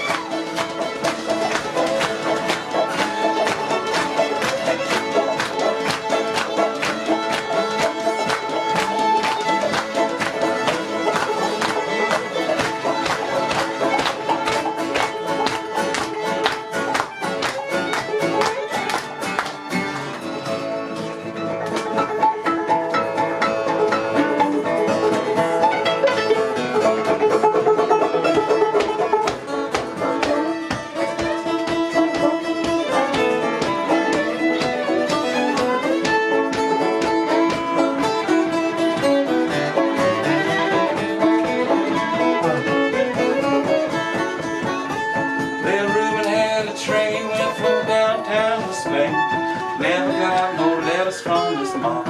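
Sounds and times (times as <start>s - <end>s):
banjo: 0.0s - 52.0s
fiddle: 0.0s - 52.0s
guitar: 0.0s - 52.0s.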